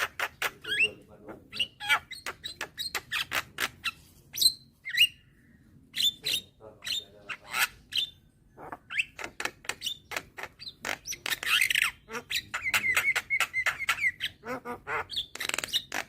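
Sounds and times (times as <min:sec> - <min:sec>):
bird chattering and chirping: 0:00.0 - 0:16.0.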